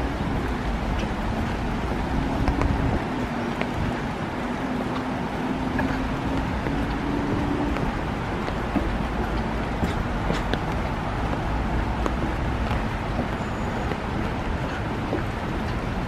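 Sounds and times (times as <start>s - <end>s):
rain falling on foliage: 0.1s - 16.0s.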